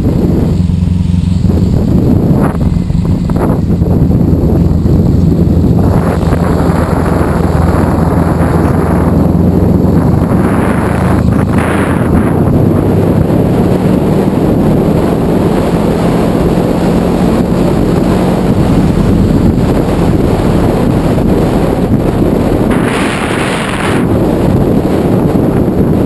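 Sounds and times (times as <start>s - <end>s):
motorcycle engine hum: 0.0s - 26.0s
wind buffeting microphone: 0.0s - 26.0s.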